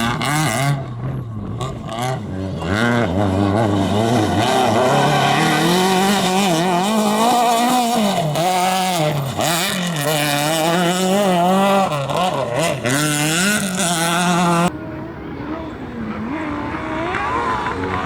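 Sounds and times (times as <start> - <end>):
racing engine revving: 0.0 - 18.0.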